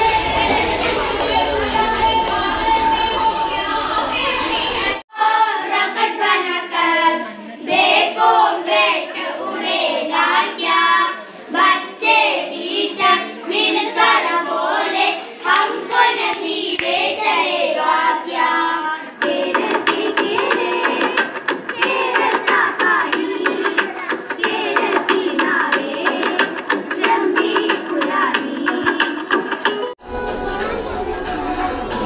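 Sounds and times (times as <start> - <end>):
boys singing into a microphone: 0.0 - 32.0.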